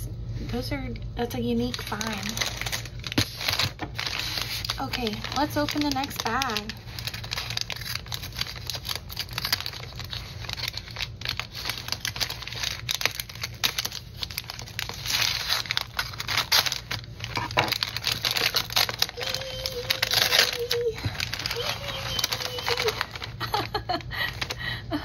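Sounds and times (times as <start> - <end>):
paper bag crinkling: 1.6 - 24.8
scissors cutting paper: 1.8 - 23.3.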